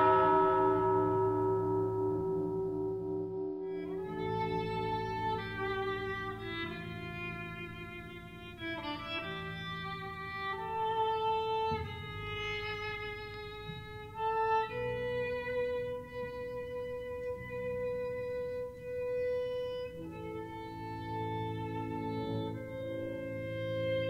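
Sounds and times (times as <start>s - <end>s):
low held string notes: 0.0s - 24.0s
violin slow melody: 0.0s - 24.0s.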